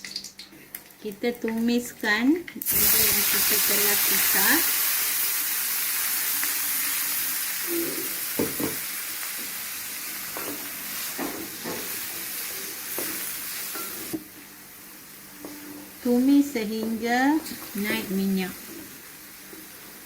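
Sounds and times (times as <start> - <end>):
spice paste sizzling in oil: 2.6 - 20.0.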